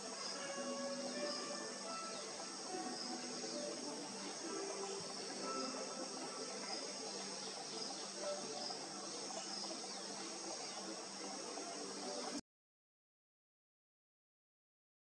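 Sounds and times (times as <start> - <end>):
insects chirring: 0.0 - 12.4.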